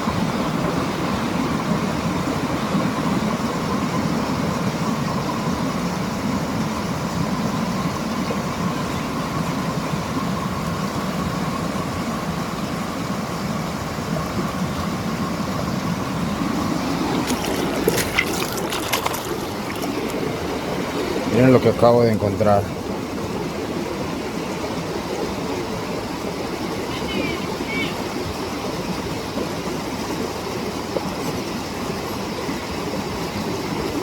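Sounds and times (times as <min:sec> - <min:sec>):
creek water rushing over rocks: 0:00.0 - 0:34.0.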